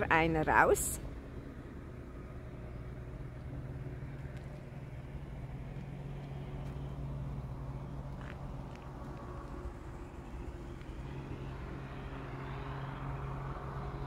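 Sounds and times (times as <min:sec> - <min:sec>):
motorhome engine humming: 0:00.0 - 0:14.0.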